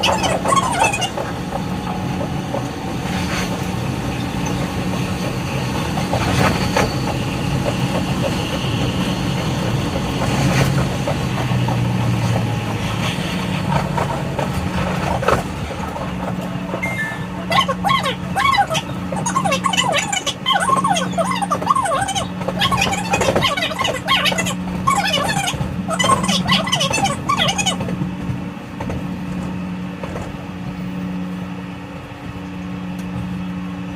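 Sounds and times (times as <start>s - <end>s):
train running hum: 0.0s - 33.9s.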